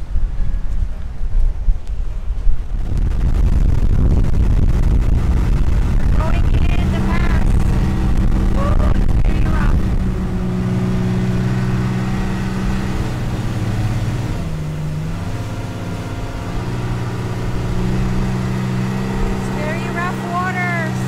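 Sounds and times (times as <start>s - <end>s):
boat engine running: 0.0s - 21.0s
wind: 0.0s - 21.0s
water rushing past hull: 1.3s - 21.0s.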